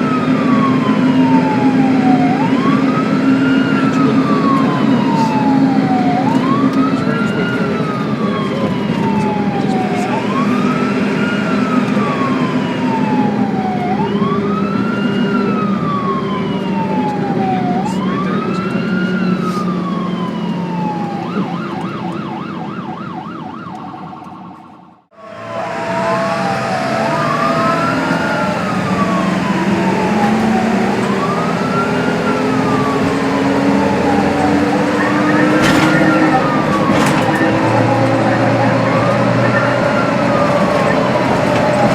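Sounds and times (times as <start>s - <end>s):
ambulance siren wailing: 0.0s - 41.9s
vehicle engine and road rumble: 0.0s - 41.9s.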